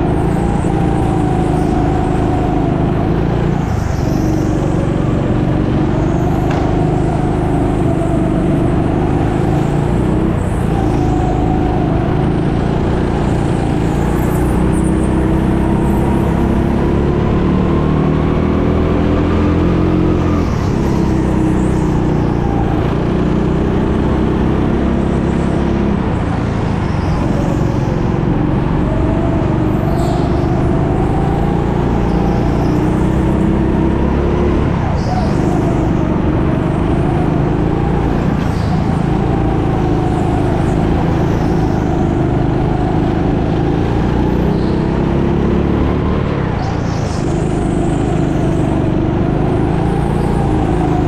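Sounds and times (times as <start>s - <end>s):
go-kart engine running hard: 0.0s - 51.0s.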